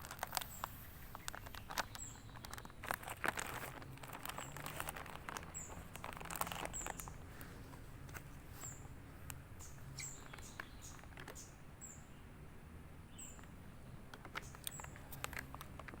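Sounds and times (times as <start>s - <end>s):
ration heater crackling and popping: 0.0s - 11.6s, 13.8s - 16.0s.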